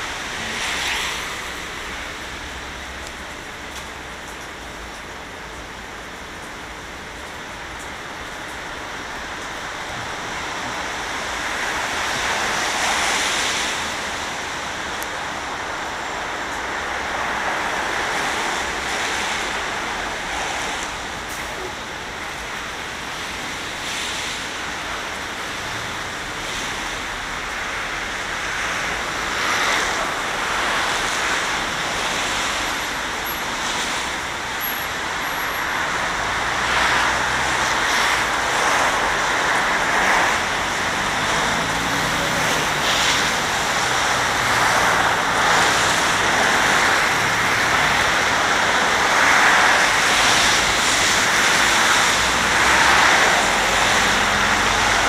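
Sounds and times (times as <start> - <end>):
tyres hissing on wet road: 0.0 - 55.0.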